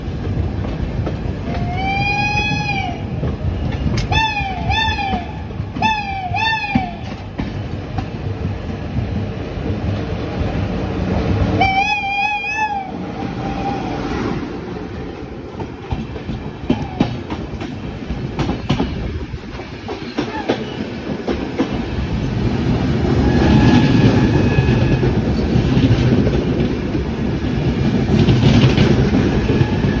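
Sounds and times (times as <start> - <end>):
train wheels clacking over rails: 0.0 - 30.0.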